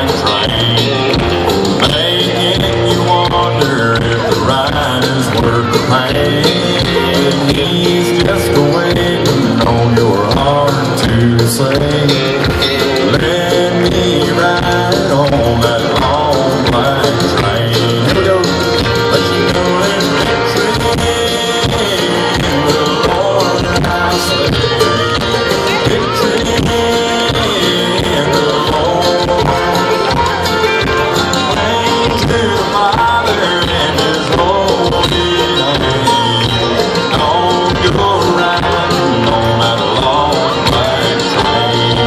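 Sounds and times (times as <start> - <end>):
banjo picking: 0.0 - 42.0
crowd clapping along: 0.0 - 42.0
live country band playing: 0.0 - 42.0.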